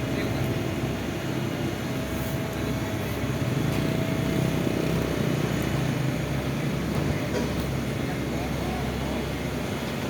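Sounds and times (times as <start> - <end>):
diesel engine droning: 0.0 - 10.0
faint steady whine: 0.0 - 10.0.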